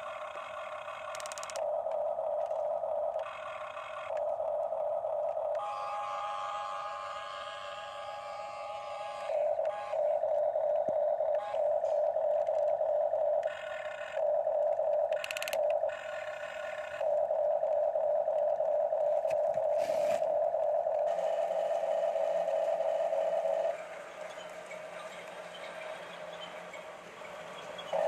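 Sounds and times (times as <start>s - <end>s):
toy excavator electric motors whining: 0.0s - 28.0s.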